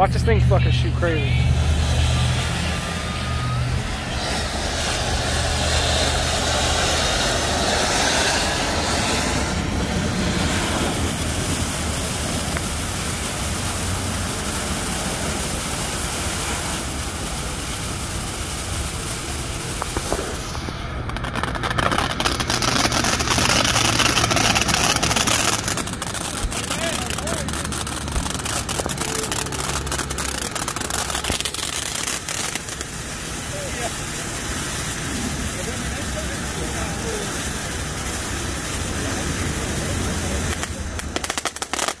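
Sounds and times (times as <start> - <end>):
firework crackles: 0.0 - 42.0
firework fountain hissing: 0.0 - 42.0.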